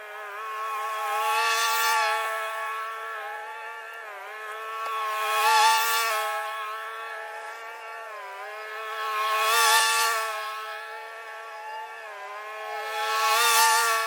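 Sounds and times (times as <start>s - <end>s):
lawn mower engine cutting grass: 0.0s - 14.0s.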